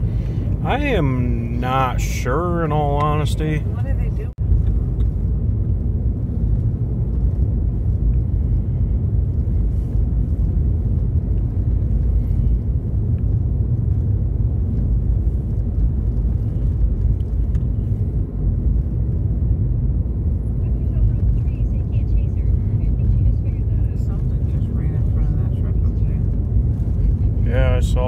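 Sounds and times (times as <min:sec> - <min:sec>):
vehicle rumble from inside cabin: 0:00.0 - 0:28.0.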